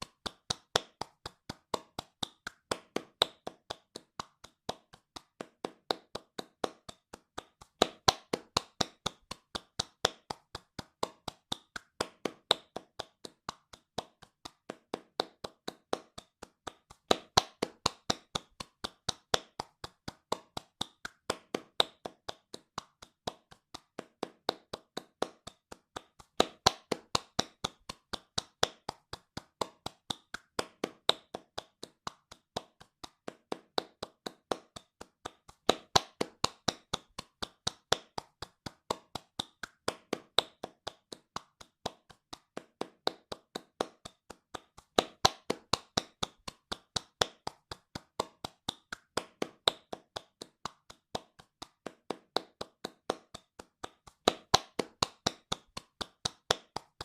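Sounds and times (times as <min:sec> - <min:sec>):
hands clapping fast: 0:00.0 - 0:57.0.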